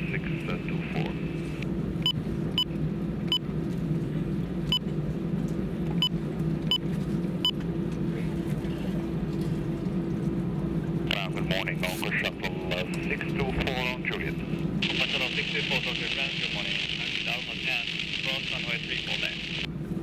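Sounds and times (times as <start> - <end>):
aircraft engines idling hum: 0.0 - 20.0.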